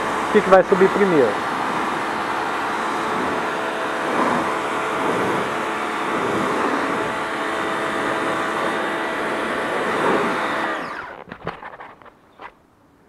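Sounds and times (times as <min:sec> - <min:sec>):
pressure washer water jet hiss: 0:00.0 - 0:11.0
whining motor: 0:00.0 - 0:11.9.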